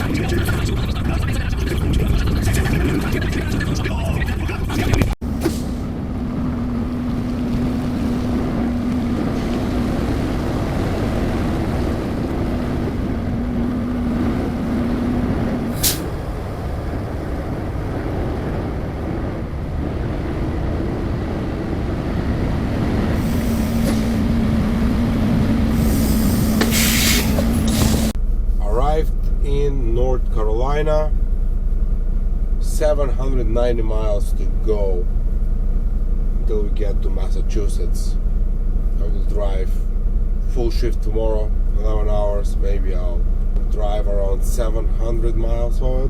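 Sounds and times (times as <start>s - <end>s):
truck engine and road rumble: 0.0s - 46.0s.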